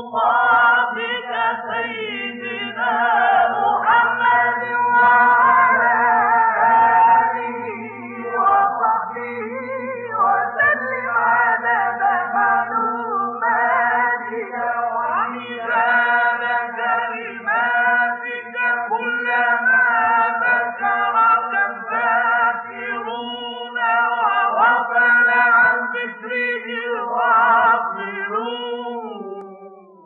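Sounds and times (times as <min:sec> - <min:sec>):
person chanting a prayer: 0:00.0 - 0:30.0.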